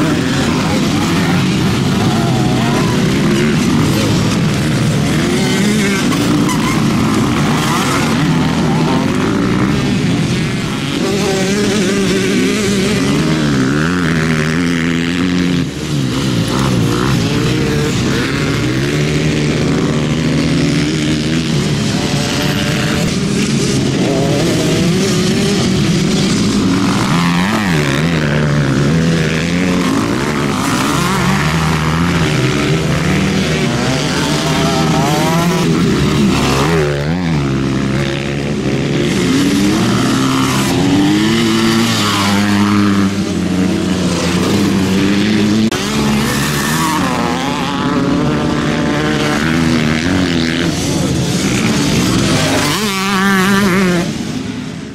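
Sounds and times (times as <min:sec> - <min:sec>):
bikes passing close by: 0:00.0 - 0:54.9
motocross bike engines revving: 0:00.0 - 0:54.9.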